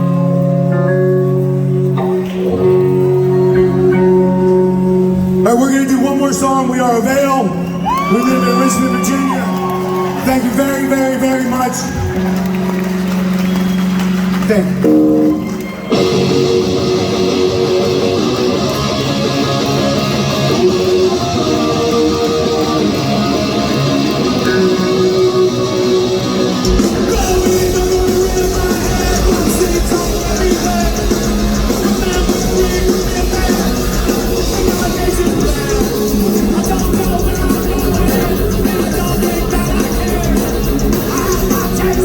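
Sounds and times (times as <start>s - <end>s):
bass guitar: 0.0s - 42.0s
distorted electric guitar riff: 0.0s - 42.0s
drums: 0.0s - 42.0s.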